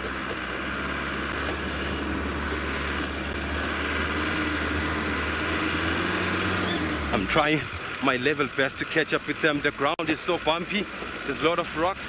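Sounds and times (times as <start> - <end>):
vehicle engine running under load: 0.0 - 12.0
vehicle rattles and knocks: 0.0 - 12.0.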